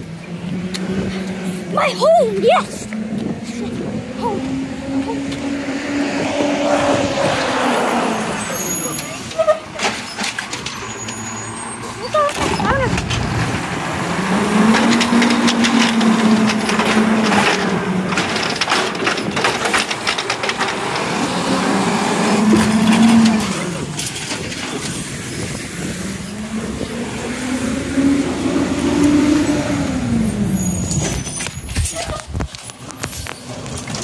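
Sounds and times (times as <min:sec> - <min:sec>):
cart clattering and banging: 0:01.1 - 0:27.0, 0:27.8 - 0:34.0
truck engine revving: 0:02.7 - 0:34.0.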